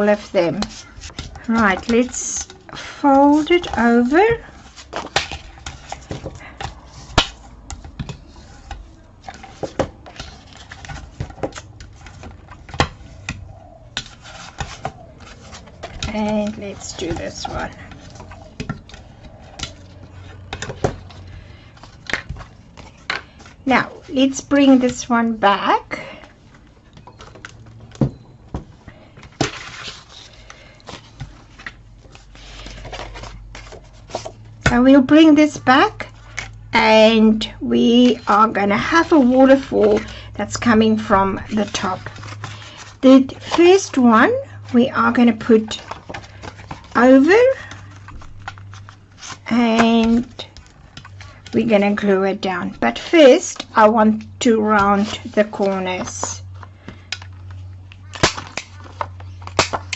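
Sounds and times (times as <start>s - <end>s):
paper rustling: 0.0s - 25.2s, 26.0s - 34.6s, 37.8s - 53.8s, 54.6s - 59.9s.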